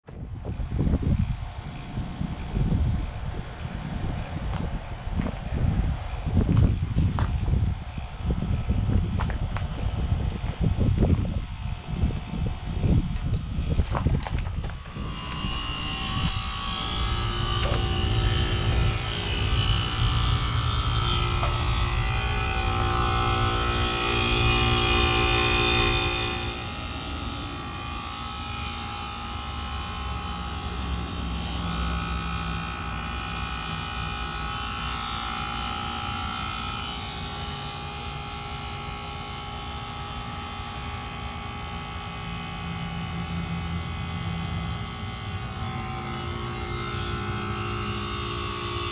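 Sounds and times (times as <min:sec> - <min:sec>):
heat pump humming: 0:00.2 - 0:48.9.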